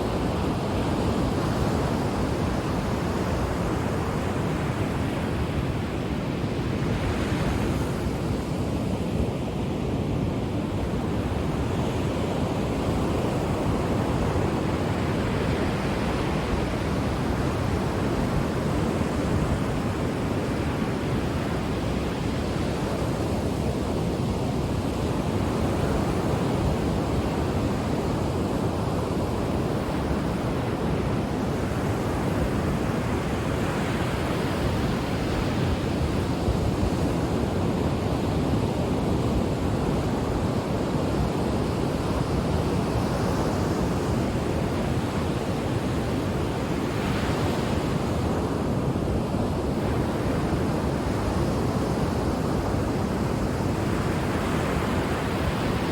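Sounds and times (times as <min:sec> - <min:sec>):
ocean waves washing on shore: 0:00.0 - 0:55.9.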